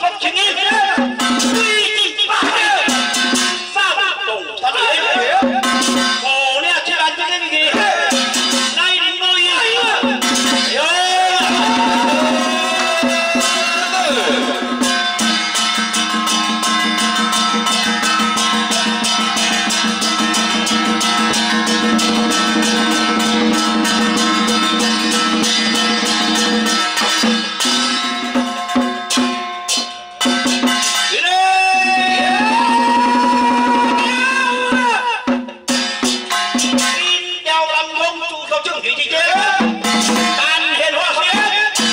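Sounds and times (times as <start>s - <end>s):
fast even percussion: 0.0s - 41.9s.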